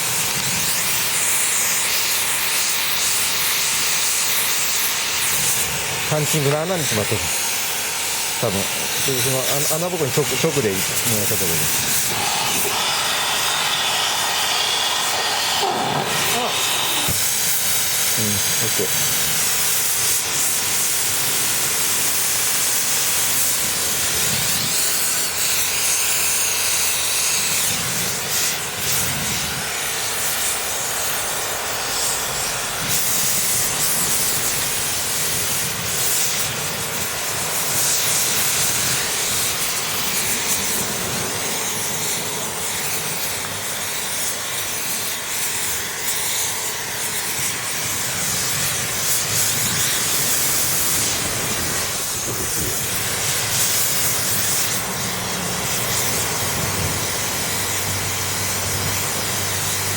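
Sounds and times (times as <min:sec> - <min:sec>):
gas torch flame hissing: 0:00.0 - 0:59.9.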